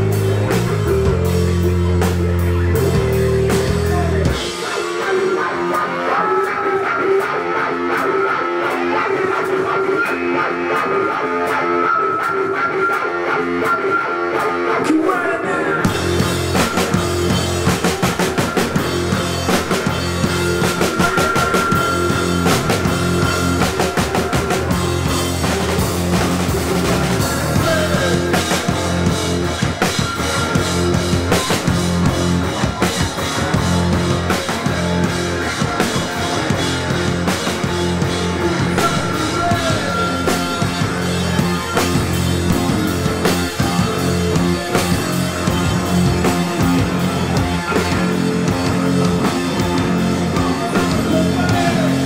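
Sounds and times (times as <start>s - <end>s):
electric guitar: 0.0s - 52.0s
rock band playing: 0.0s - 52.0s.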